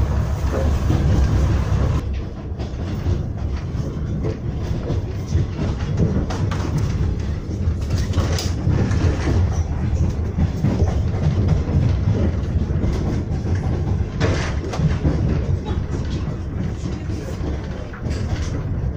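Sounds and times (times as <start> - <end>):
train wheel clacks: 0.0 - 18.9
train wheels rumbling on rails: 0.0 - 18.9.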